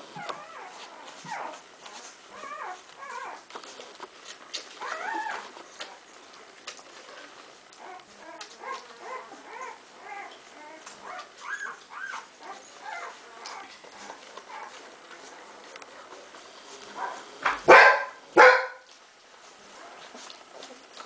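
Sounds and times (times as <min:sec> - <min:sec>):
puppies whimpering and squeaking: 0:00.1 - 0:17.4.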